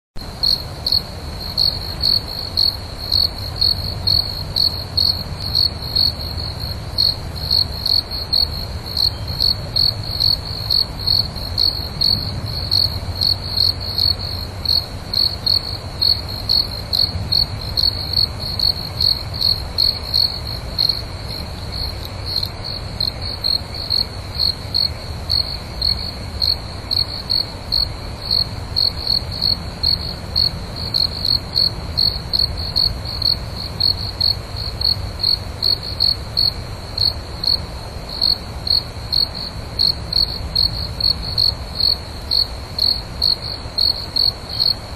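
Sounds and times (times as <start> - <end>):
insect chirping: 0.2 - 44.9.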